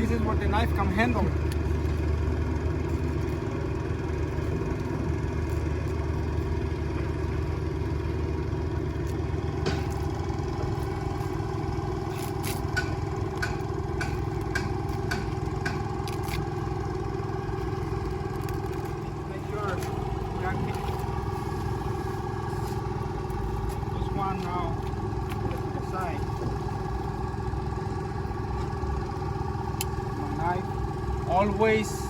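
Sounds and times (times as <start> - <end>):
air compressor engine running: 0.0 - 32.0.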